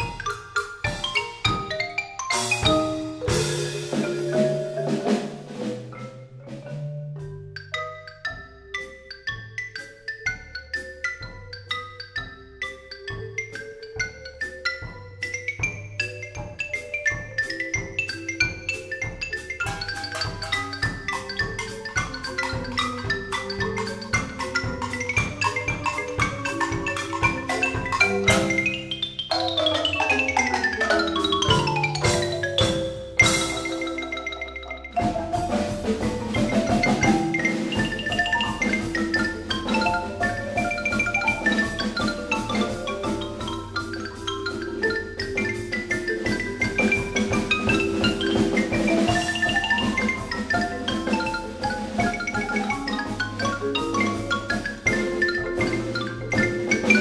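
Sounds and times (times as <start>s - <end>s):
drumset: 0.0s - 57.0s
fast xylophone solo: 0.0s - 57.0s
marimbas: 0.0s - 57.0s.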